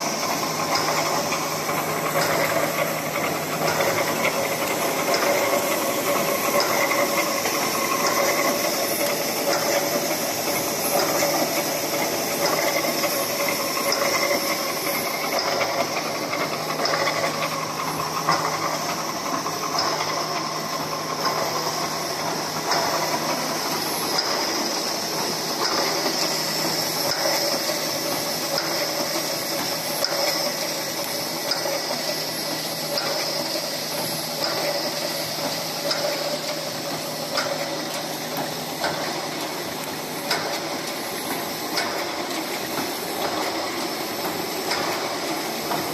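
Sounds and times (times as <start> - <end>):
welding machine hissing: 0.0 - 45.9.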